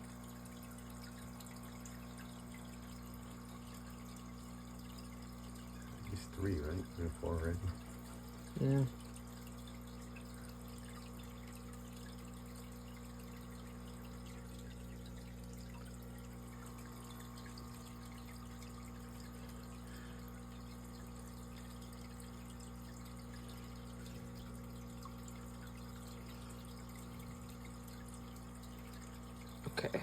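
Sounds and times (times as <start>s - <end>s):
aquarium filter motor hum: 0.0s - 30.0s
water trickling and dripping: 0.0s - 30.0s.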